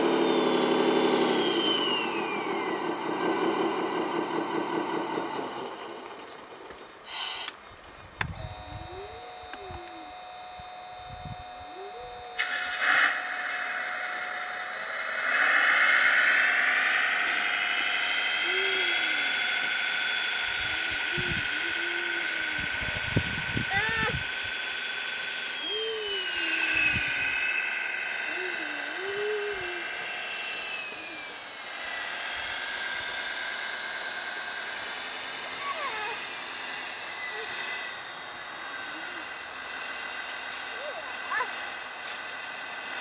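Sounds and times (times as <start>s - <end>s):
small electric motor and gears whining: 0.0s - 43.0s.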